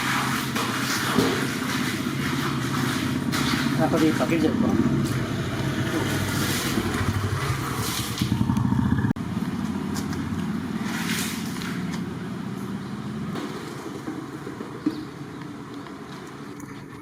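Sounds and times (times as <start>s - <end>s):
low engine hum: 1.9s - 17.0s.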